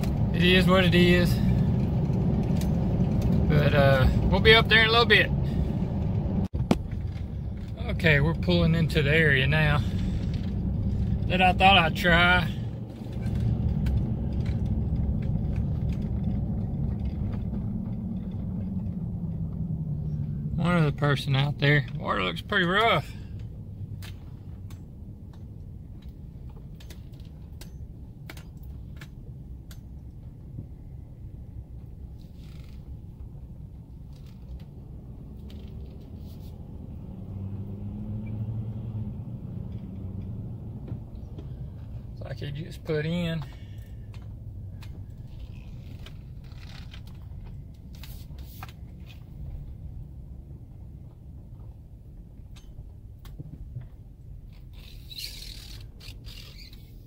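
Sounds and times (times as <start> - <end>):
engine and tyres rumbling: 0.0 - 57.0.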